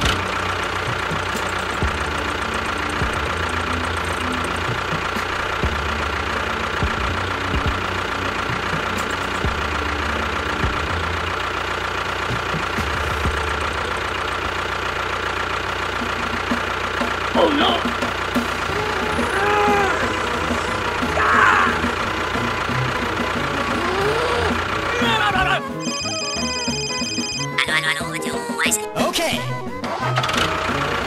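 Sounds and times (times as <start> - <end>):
constant whine: 0.0 - 31.0
engine running steadily: 0.0 - 31.0.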